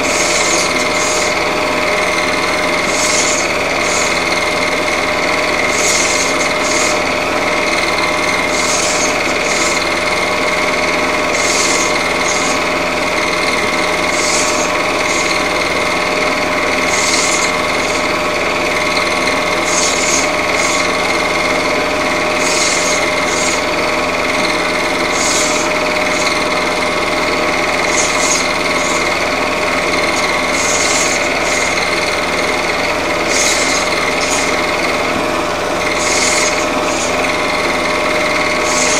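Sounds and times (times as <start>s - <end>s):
film projector whirring: 0.0s - 38.9s.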